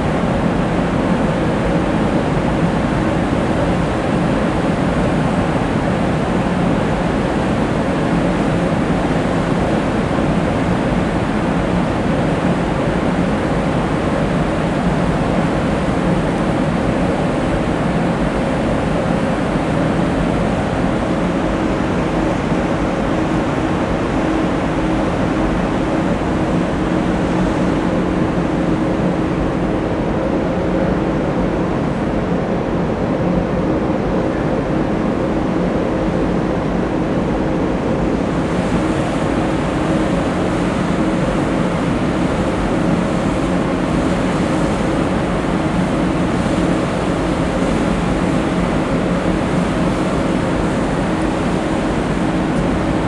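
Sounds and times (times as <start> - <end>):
ship engines droning: 0.0 - 53.0.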